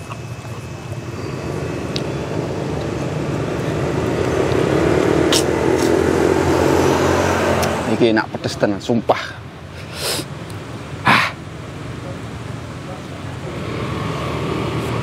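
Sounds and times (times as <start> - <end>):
passing vehicle engine: 0.0 - 9.7, 10.3 - 15.0.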